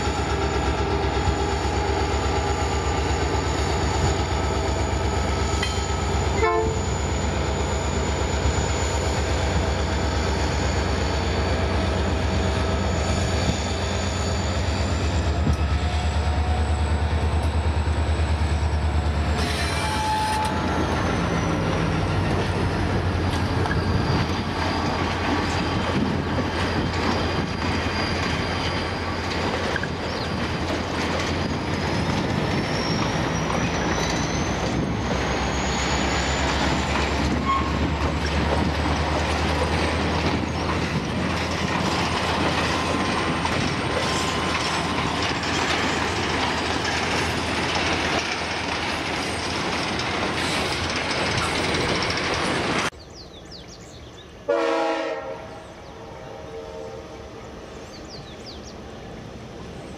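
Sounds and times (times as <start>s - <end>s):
high wheel squeal: 0.0s - 52.9s
locomotive engine drone: 0.0s - 54.4s.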